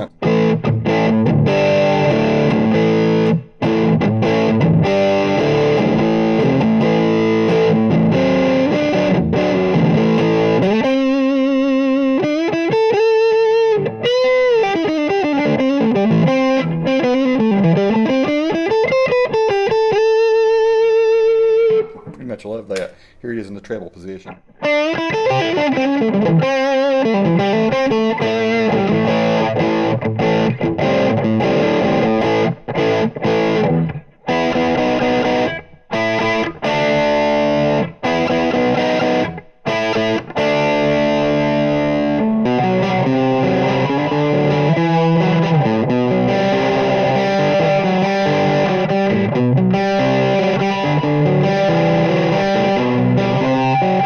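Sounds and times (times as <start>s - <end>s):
distorted electric guitar: 0.0s - 22.1s, 24.3s - 54.0s.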